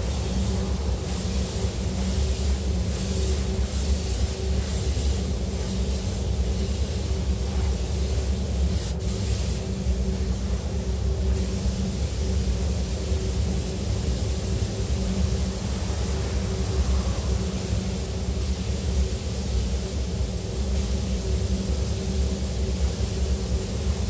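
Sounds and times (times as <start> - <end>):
low droning hum: 0.0 - 24.0
spray guns hissing in bursts: 0.0 - 24.0.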